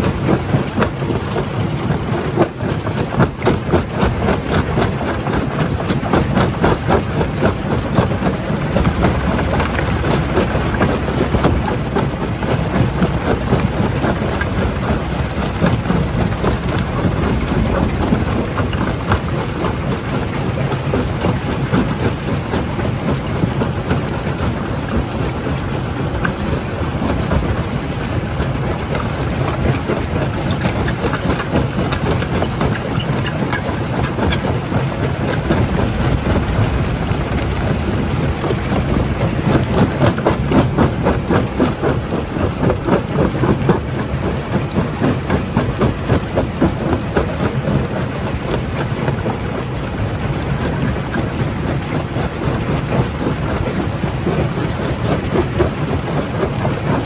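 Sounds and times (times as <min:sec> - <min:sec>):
heavy crusher machine noise: 0:00.0 - 0:57.0.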